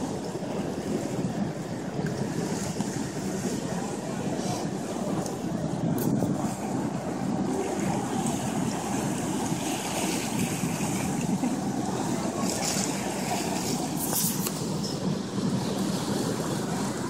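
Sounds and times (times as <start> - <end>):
ferry engine rumble: 0.0 - 17.0
wind on microphone: 0.0 - 17.0.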